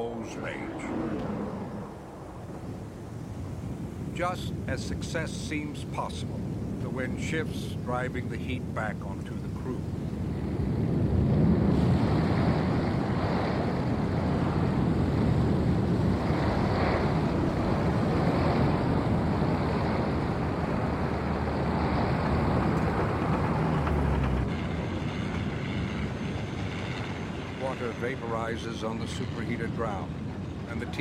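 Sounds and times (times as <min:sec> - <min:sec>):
fire rushing: 0:00.0 - 0:31.0.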